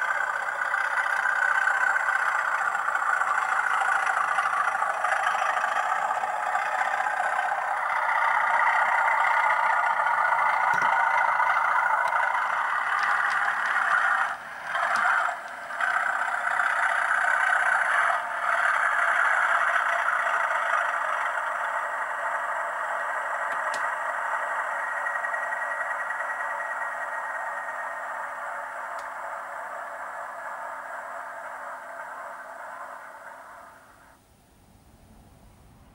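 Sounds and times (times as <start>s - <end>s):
model wheels and mechanism: 0.0s - 34.2s
model diesel engine sound: 0.0s - 35.9s.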